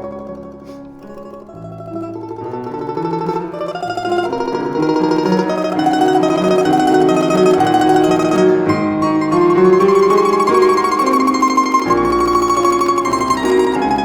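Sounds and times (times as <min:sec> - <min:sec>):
domra melody: 0:00.0 - 0:14.0
piano accompaniment: 0:00.0 - 0:14.0.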